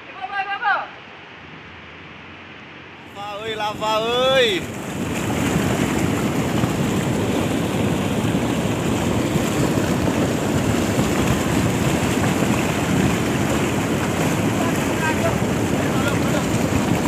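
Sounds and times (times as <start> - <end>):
mud and water rushing over rocks: 3.0 - 17.0.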